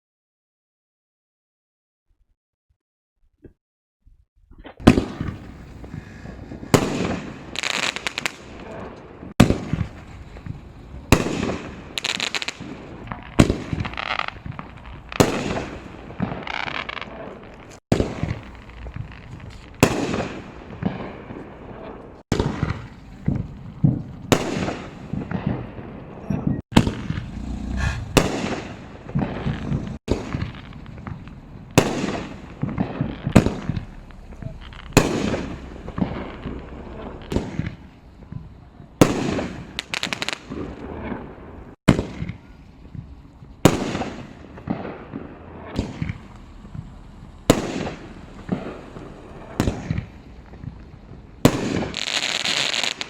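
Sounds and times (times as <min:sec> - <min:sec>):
fireworks bangs echoing: 0:04.8 - 0:53.0.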